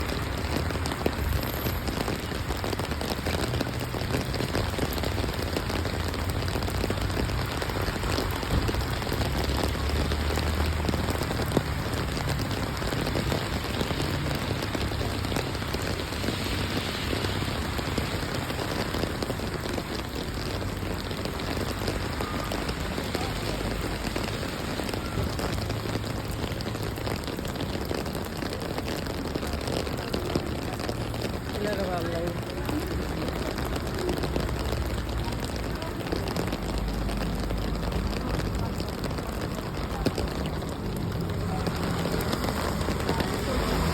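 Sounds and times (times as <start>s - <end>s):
rain on hard surfaces: 0.0s - 43.9s.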